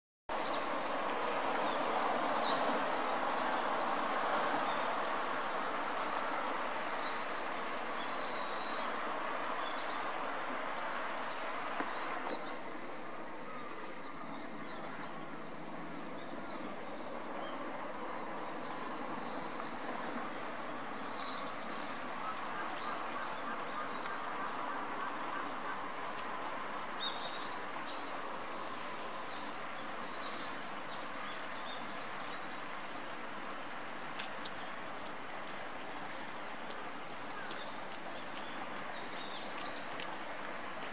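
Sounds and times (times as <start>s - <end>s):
background rushing noise: 0.3s - 40.9s.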